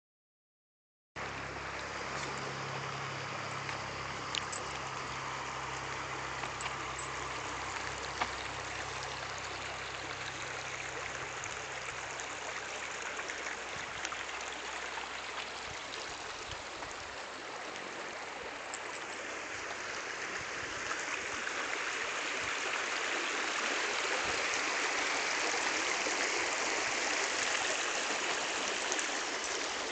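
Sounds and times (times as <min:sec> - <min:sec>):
creek water rushing: 0:01.2 - 0:29.9.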